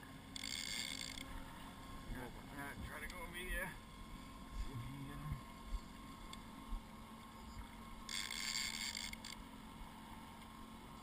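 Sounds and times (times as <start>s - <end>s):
outboard motor running: 0.0s - 11.0s
wind and water noise: 0.0s - 11.0s.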